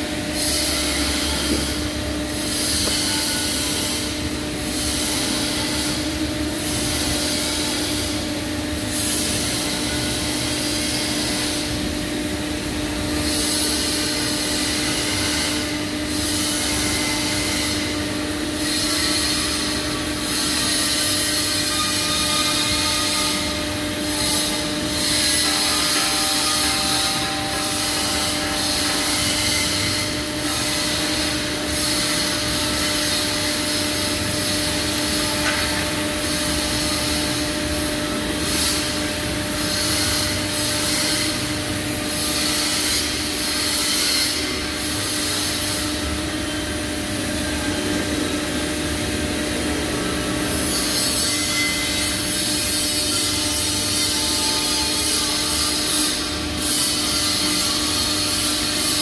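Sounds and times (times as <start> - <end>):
welding arc: 0.0 - 59.0.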